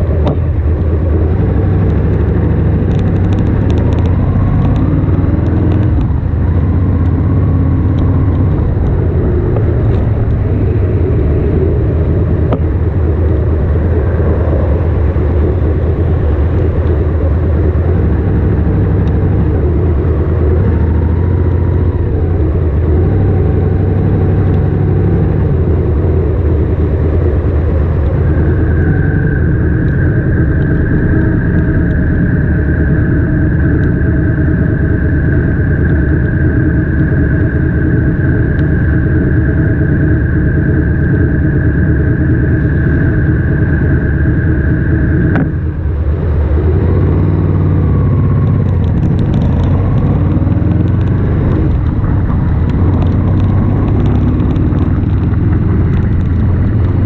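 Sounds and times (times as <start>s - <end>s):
high whine: 0.0s - 57.0s
motorcycle engine rumble: 0.0s - 57.0s
road and wind noise: 0.0s - 57.0s.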